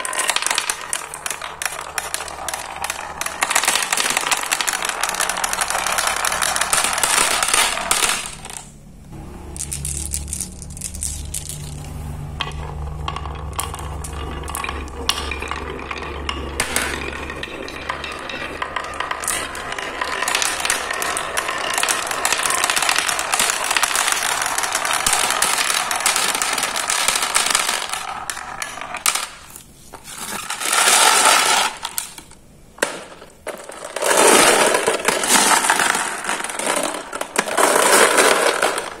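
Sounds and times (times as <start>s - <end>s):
marbles rattling down wooden run: 0.0s - 8.7s, 9.6s - 39.0s.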